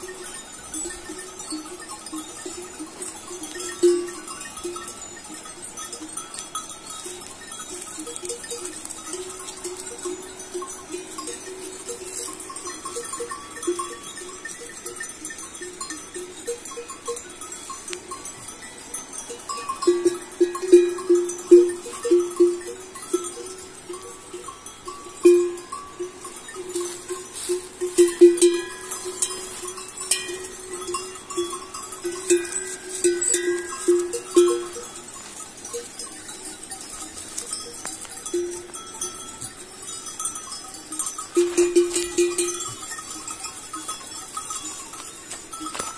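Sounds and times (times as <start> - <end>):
animal bells clanking: 0.0 - 45.9.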